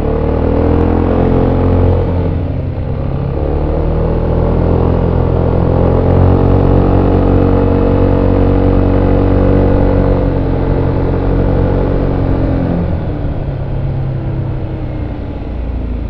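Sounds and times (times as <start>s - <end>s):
scooter engine under throttle: 0.0s - 16.0s.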